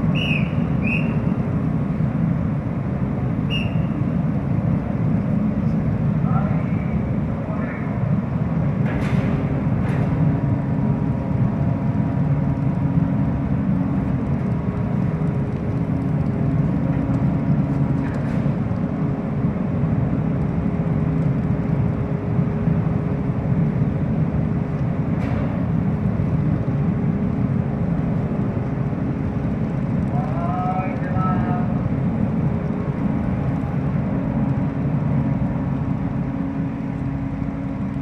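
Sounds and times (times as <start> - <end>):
ferry engines droning: 0.0 - 38.0.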